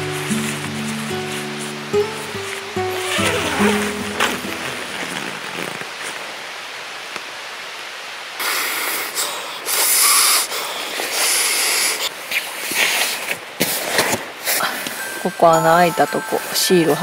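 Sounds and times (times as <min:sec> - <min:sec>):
steady soft hiss: 0:00.0 - 0:17.0.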